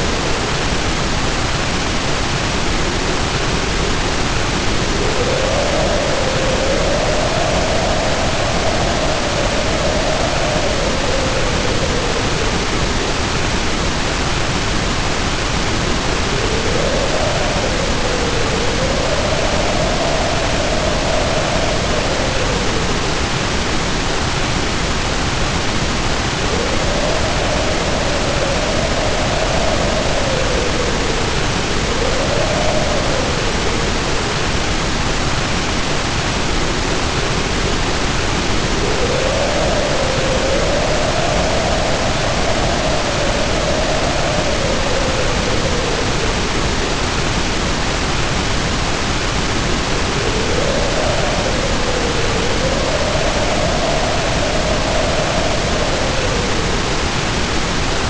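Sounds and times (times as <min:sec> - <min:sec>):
heavy rain pouring: 0:00.0 - 0:58.0
wind howling: 0:00.0 - 0:58.0.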